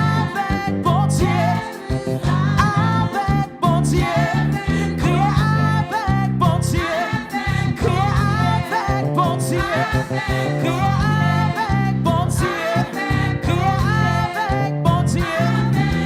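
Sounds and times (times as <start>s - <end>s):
band with bass line: 0.0s - 16.0s
voices singing gospel song: 0.0s - 16.0s.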